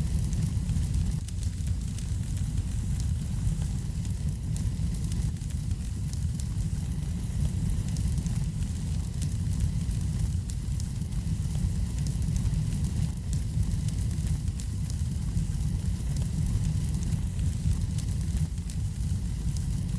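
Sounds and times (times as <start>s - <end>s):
fire popping: 0.0s - 19.9s
wood fire crackling: 0.0s - 19.9s.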